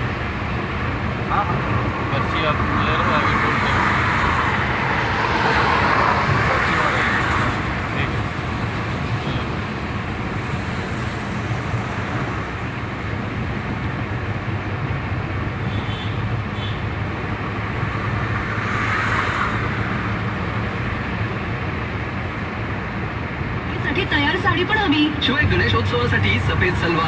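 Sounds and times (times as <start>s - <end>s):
tyre and road noise: 0.0s - 27.0s.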